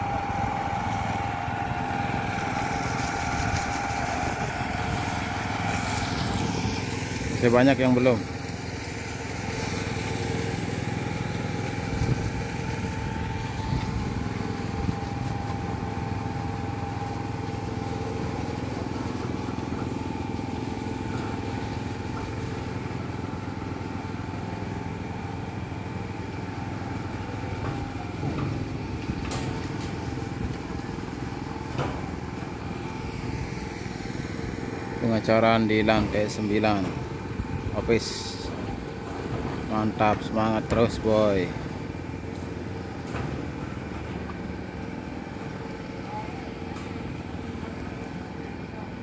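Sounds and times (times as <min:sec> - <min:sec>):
construction machinery engines droning: 0:00.0 - 0:49.0.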